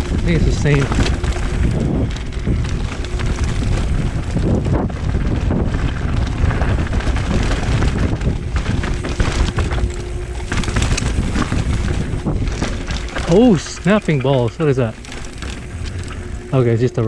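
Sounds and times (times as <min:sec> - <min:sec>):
bike clicks and rattles: 0:00.0 - 0:17.0
tyres rolling on dirt: 0:00.0 - 0:17.0
wind buffeting microphone: 0:00.0 - 0:17.0.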